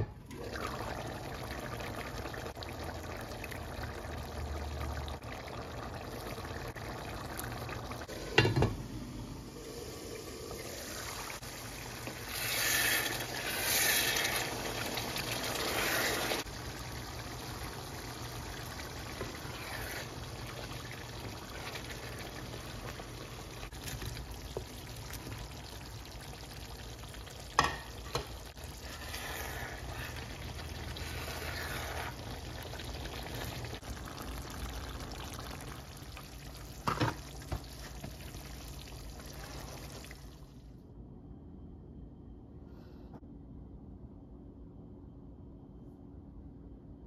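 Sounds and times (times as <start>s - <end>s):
stew sizzling and bubbling: 0.0s - 40.6s.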